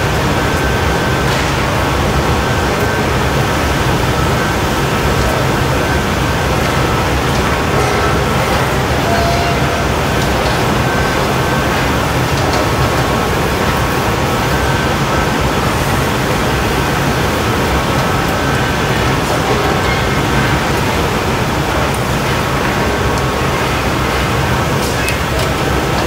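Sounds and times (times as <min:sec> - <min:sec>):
gas burners roaring: 0:00.0 - 0:26.0
ventilation fans: 0:00.0 - 0:26.0.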